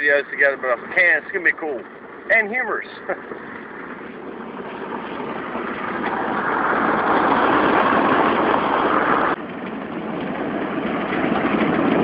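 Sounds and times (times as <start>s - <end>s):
road and wind noise: 0.0s - 12.0s
truck driving on a dirt road: 0.0s - 12.0s.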